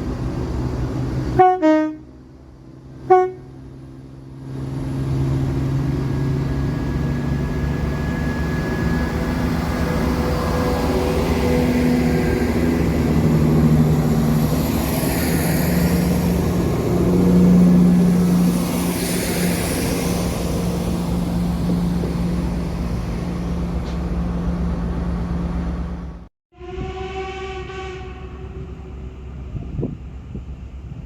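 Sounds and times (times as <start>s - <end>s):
train engine drone: 0.0s - 31.0s.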